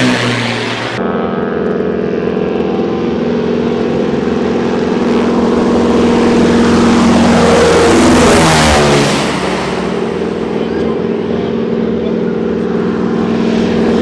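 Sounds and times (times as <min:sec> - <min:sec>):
propeller plane passing: 0:00.0 - 0:14.0.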